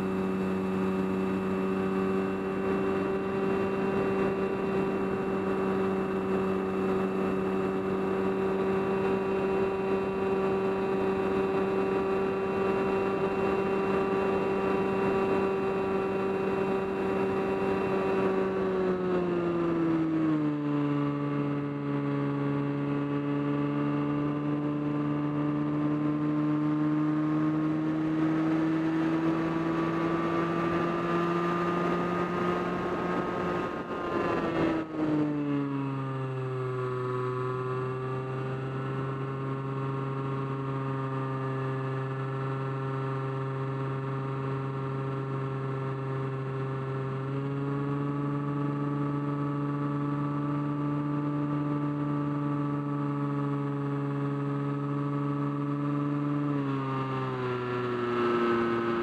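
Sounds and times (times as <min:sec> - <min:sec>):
aircraft motor and propeller whine: 0:00.0 - 0:59.0.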